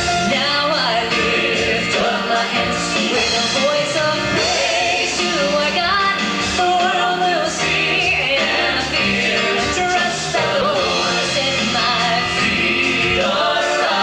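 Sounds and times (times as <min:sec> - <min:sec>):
gospel singing with band: 0:00.0 - 0:14.0.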